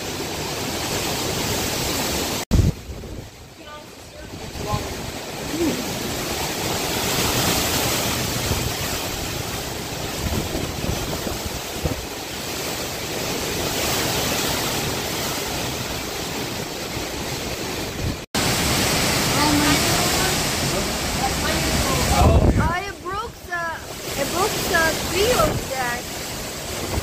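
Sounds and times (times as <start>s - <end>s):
strong wind gusts buffeting microphone: 2.5s - 27.0s.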